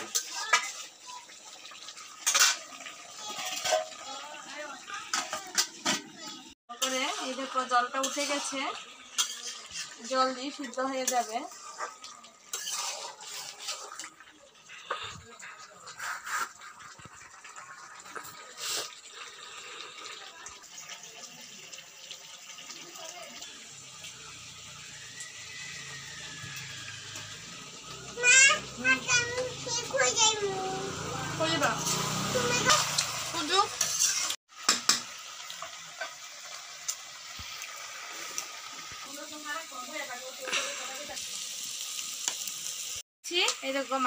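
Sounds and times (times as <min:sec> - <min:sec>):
meat and potatoes sizzling in wok: 0:00.0 - 0:44.0.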